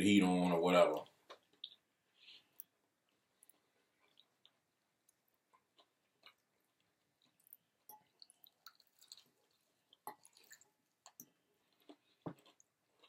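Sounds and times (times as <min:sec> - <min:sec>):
faint chewing mouth sounds: 0:01.2 - 0:13.0.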